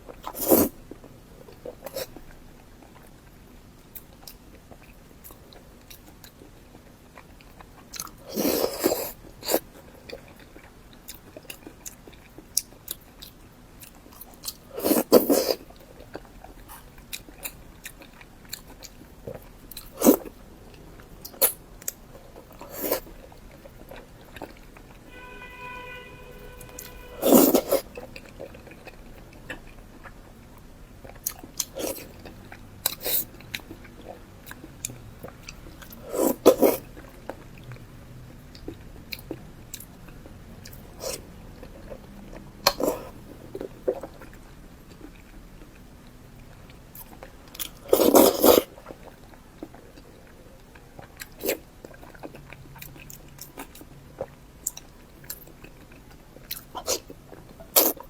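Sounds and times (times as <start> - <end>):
soft chewing: 0.0 - 25.1, 26.4 - 58.0.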